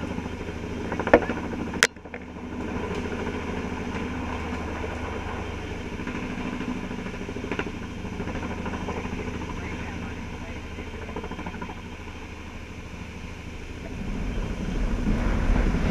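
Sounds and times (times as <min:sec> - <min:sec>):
helicopter rotor beating: 0:00.0 - 0:15.9.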